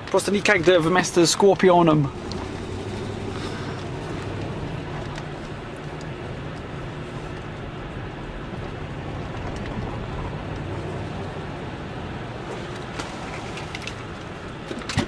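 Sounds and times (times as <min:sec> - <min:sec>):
road noise: 0:00.0 - 0:15.0
vehicle engine droning: 0:00.7 - 0:15.0.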